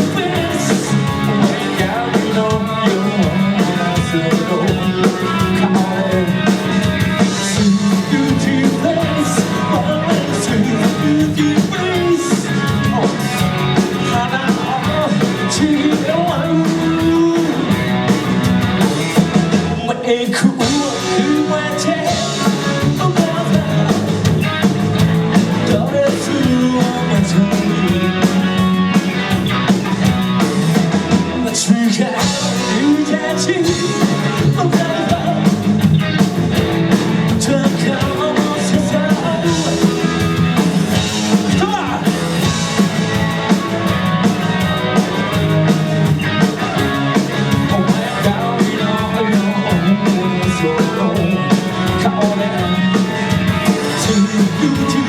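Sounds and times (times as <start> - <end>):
man singing: 0.0 - 18.2, 18.9 - 24.7, 25.6 - 28.9, 31.1 - 36.2, 37.3 - 42.6, 45.2 - 55.0
bass guitar: 0.0 - 55.0
drum kit: 0.0 - 55.0
electric guitar: 0.0 - 55.0.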